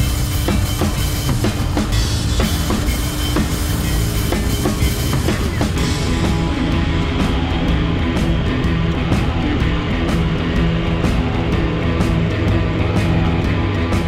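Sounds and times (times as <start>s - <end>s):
rock music with drum beat: 0.0s - 14.0s.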